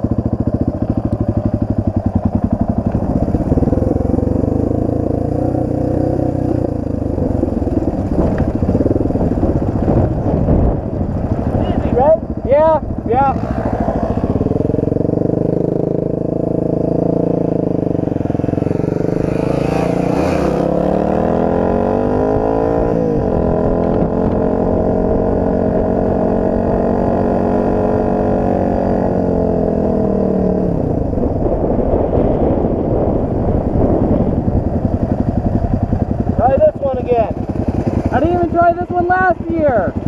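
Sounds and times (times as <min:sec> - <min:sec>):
dirt bike engine revving: 0:00.0 - 0:30.8, 0:34.8 - 0:40.0.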